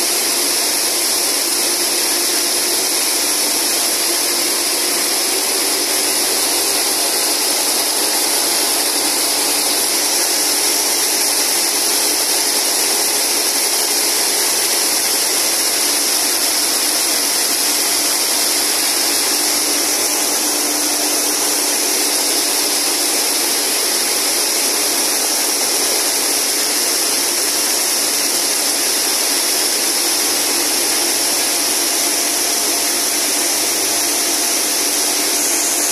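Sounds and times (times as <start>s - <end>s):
braiding machines whirring: 0.1s - 35.9s.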